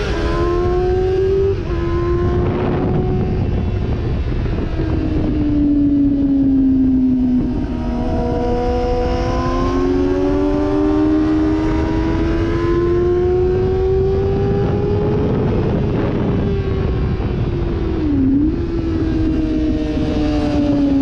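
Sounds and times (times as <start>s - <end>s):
motorcycle engine at speed: 0.0s - 21.0s
wind rushing over microphone: 0.0s - 21.0s.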